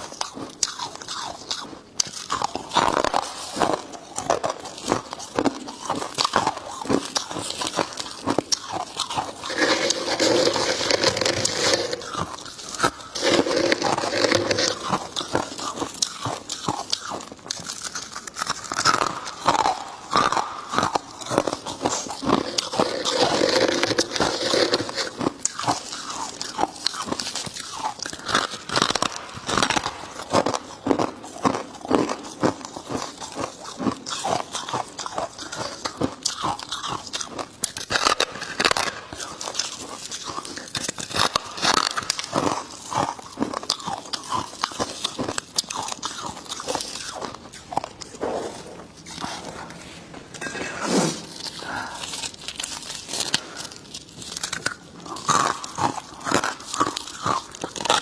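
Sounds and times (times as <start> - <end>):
person chewing crunchy frost: 0.0 - 58.0.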